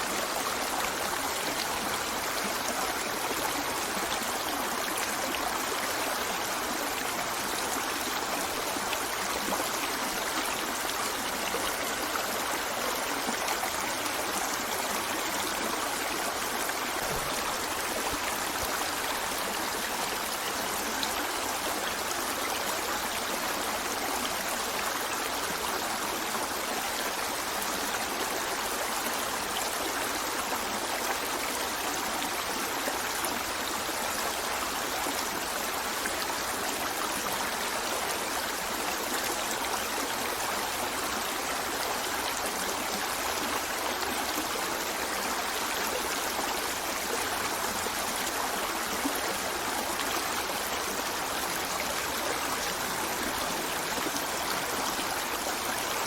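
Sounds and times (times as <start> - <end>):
river water running over rocks: 0.0 - 56.0.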